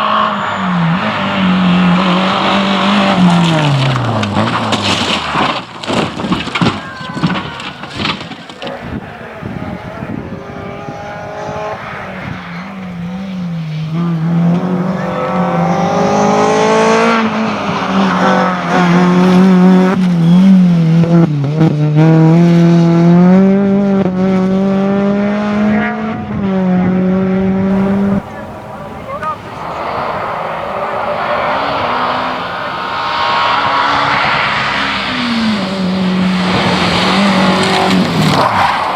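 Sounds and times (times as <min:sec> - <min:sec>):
rally car engine shifting gears: 0:00.0 - 0:38.9.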